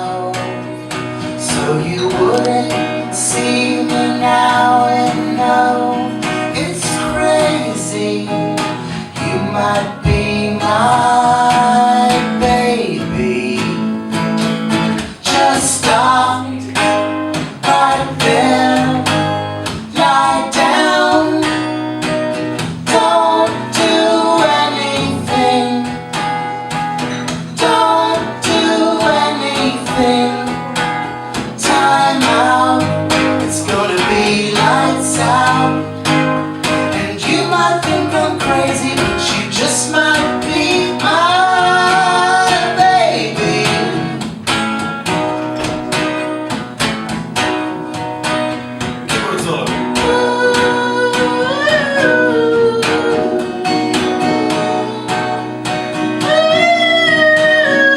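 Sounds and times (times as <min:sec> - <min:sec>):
person singing: 0:00.0 - 0:22.1, 0:22.7 - 0:26.2, 0:27.5 - 0:44.4, 0:49.1 - 0:57.9
acoustic guitar strummed: 0:00.0 - 0:57.9.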